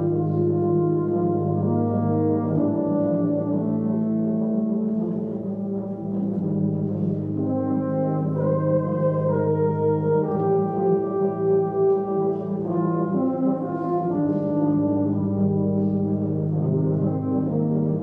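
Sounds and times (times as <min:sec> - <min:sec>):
euphonium melody: 0:00.0 - 0:18.0
low tuba notes: 0:00.0 - 0:18.0.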